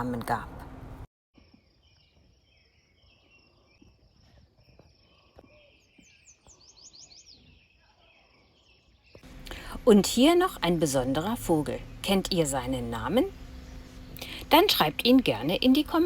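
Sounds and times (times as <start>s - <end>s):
small birds chirping: 1.4s - 10.6s, 11.2s - 16.0s.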